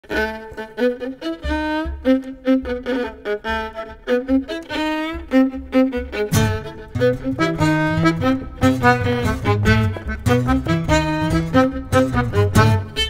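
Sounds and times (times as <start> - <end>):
fiddle melody with vibrato: 0.0 - 13.0.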